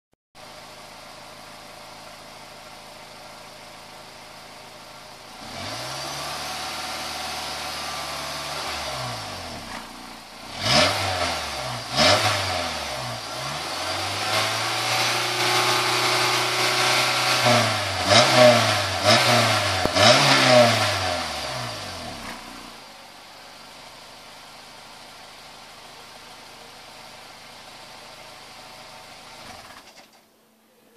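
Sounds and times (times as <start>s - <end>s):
car engine idling and revving: 0.4s - 30.2s.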